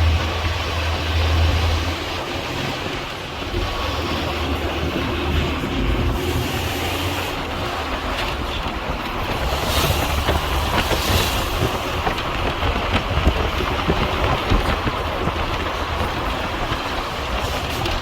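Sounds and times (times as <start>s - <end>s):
road rumble: 0.0s - 18.0s
wind noise: 0.0s - 18.0s.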